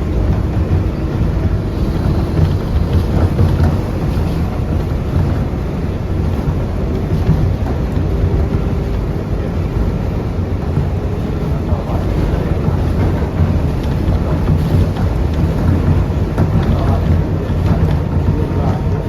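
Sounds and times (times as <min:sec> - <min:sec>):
subway car rumbling on rails: 0:00.0 - 0:19.0.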